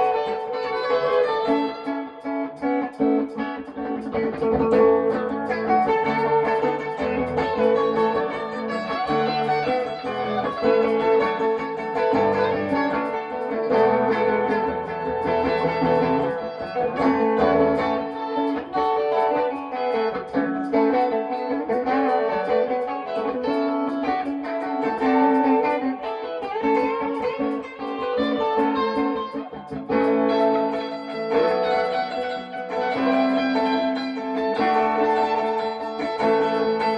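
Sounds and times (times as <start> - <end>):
instrumental rock guitar music: 0.0 - 36.9.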